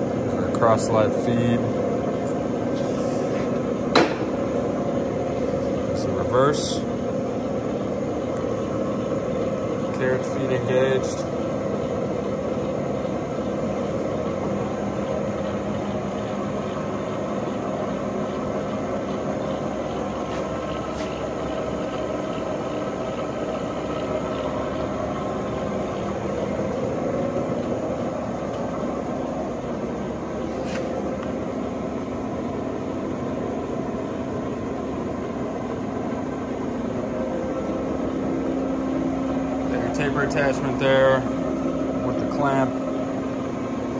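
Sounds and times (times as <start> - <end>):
lathe running with gear whine: 0.0 - 43.9.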